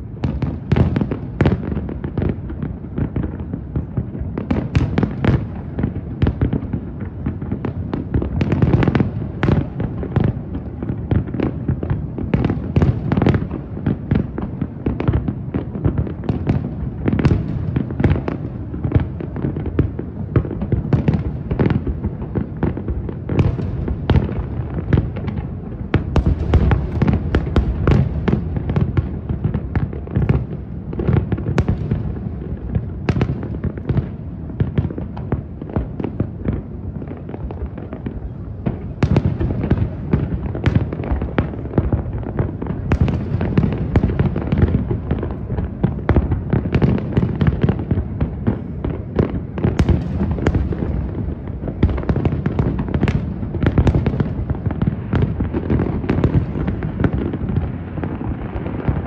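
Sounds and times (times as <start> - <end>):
low rumble of echoing explosions: 0.0 - 59.0.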